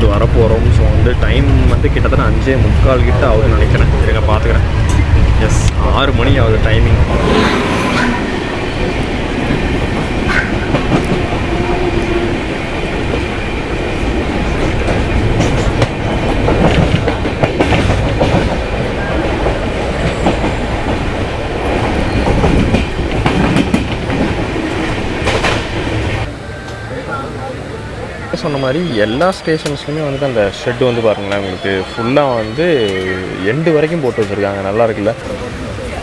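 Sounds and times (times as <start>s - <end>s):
wheels clacking over rail joints: 0.0s - 26.8s, 28.4s - 36.0s
train rumbling: 0.0s - 36.0s.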